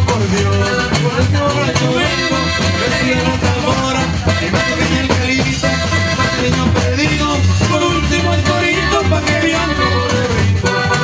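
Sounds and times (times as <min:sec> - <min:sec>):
accordion: 0:00.0 - 0:11.0
bouncing bass line: 0:00.0 - 0:11.0.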